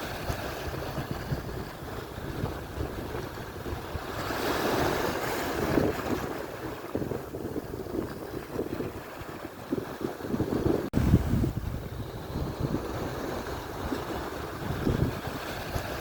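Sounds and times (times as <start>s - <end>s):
surf waves breaking: 0.0s - 16.0s
wind buffeting microphone: 0.0s - 16.0s.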